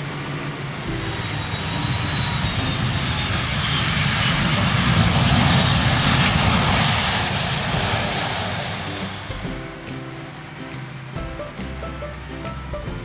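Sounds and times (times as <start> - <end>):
high whine: 0.0 - 12.2
airplane engine passing by: 0.0 - 12.5.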